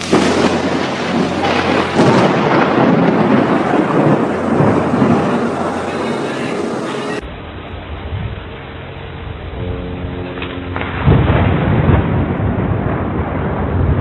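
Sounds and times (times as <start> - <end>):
thunder crack and rumble: 0.0 - 14.0.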